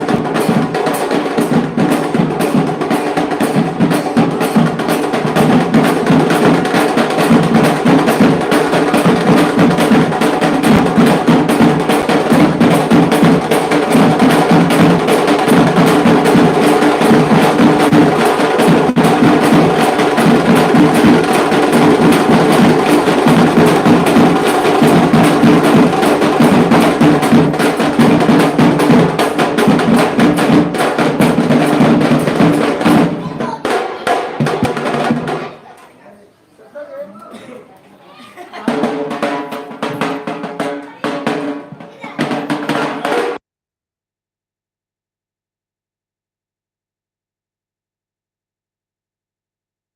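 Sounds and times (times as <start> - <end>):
barrel drum beat: 0.0 - 35.8, 38.4 - 43.4
drum ensemble drumming: 0.0 - 35.9, 38.4 - 43.4.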